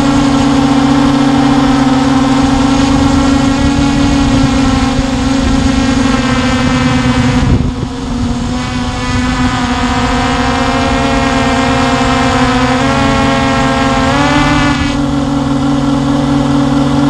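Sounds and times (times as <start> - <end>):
drone motors humming: 0.0 - 17.0.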